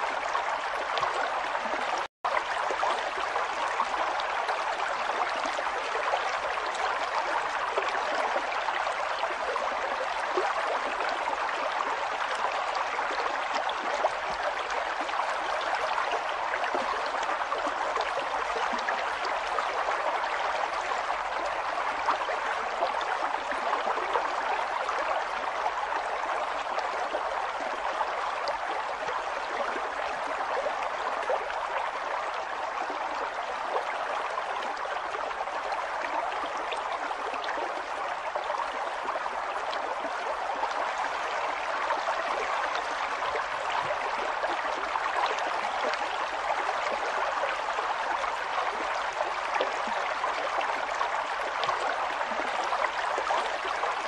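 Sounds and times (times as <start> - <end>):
river water gurgling over stones: 0.0 - 54.0.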